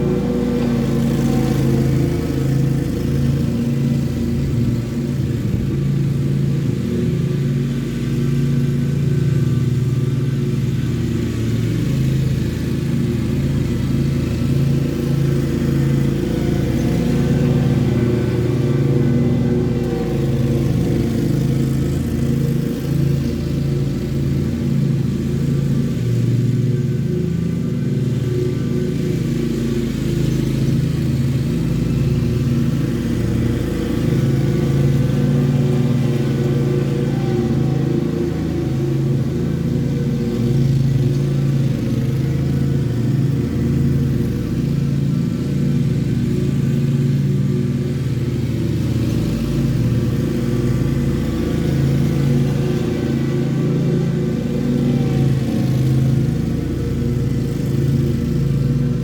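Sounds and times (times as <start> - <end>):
lawn mower engine mowing grass: 0.0 - 59.0.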